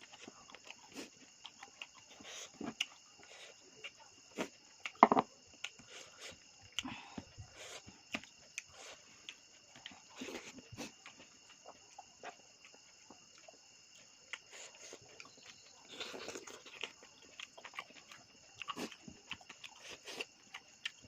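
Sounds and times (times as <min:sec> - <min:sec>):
person chewing meat: 0:00.0 - 0:21.0.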